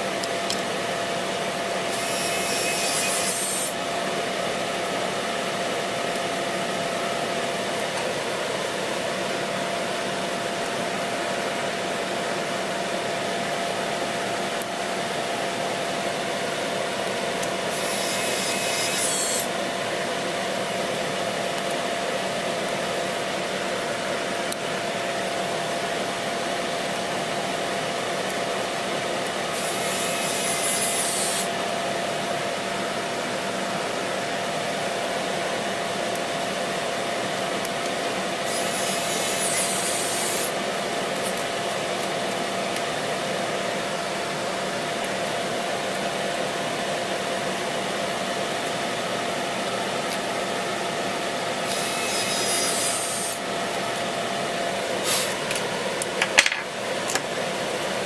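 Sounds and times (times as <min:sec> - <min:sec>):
steady hum with constant tone: 0:00.0 - 0:58.0.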